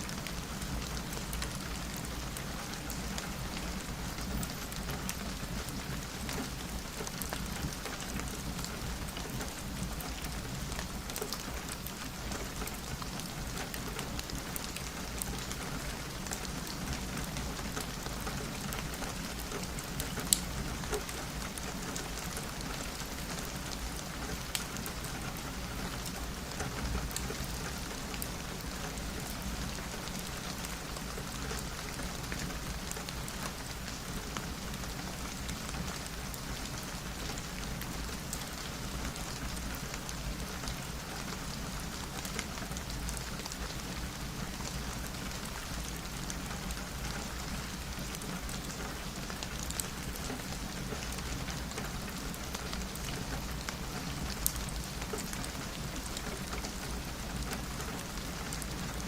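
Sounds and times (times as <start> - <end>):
rain on a window: 0.0 - 59.0.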